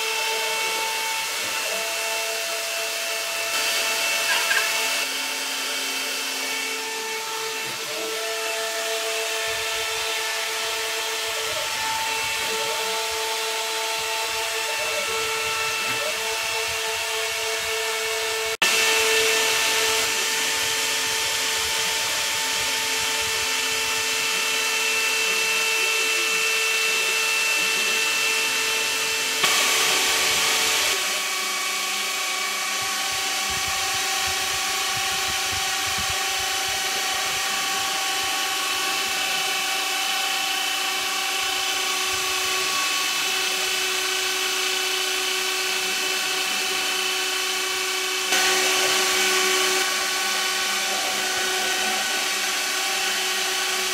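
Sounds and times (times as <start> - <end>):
router spindle whining: 0.0 - 53.9.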